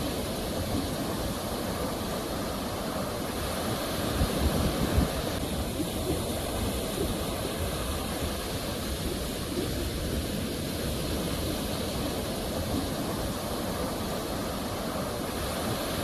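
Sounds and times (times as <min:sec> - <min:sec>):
ocean waves washing onto shore: 0:00.0 - 0:16.0.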